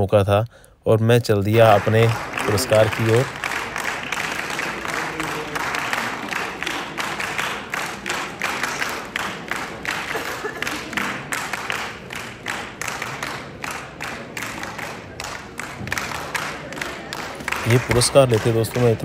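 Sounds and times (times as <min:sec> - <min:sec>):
audience clapping: 0:01.5 - 0:19.0.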